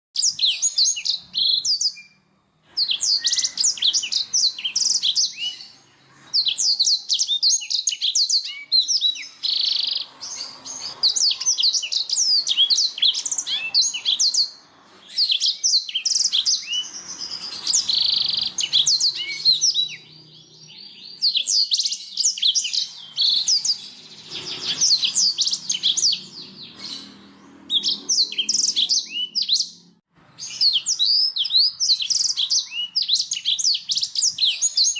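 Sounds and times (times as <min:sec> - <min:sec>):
canary singing chirps and trills: 0:00.2 - 0:34.9.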